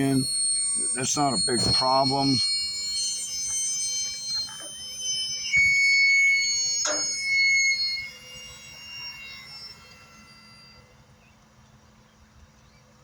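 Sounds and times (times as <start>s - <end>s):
steel struck and ringing: 0.0s - 11.0s.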